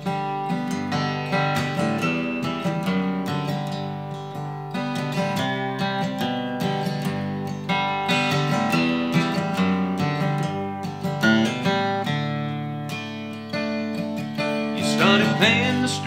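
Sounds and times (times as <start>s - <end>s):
acoustic guitar strummed: 0.0s - 16.0s.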